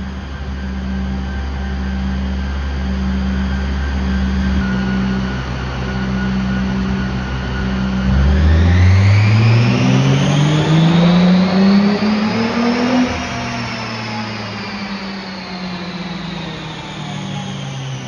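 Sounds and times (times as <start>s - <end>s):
race car engine revving on a dyno: 0.0s - 18.0s.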